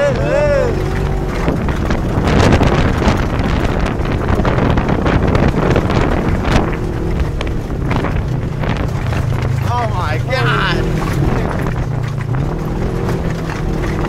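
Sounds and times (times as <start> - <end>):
off-road vehicle engine: 0.0 - 14.0
wind buffeting microphone: 0.0 - 14.0.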